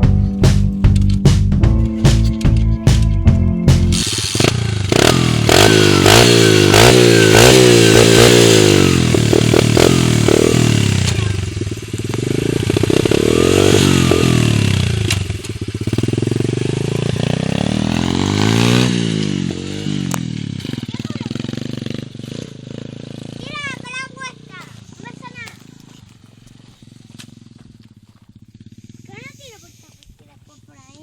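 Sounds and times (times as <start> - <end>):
motorcycle engine revving: 0.0 - 30.7.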